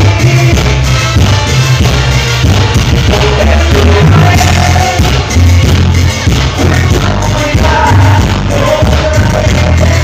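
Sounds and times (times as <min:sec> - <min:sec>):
person singing: 0:00.0 - 0:01.2, 0:02.9 - 0:10.0
live band playing cumbia: 0:00.0 - 0:10.0.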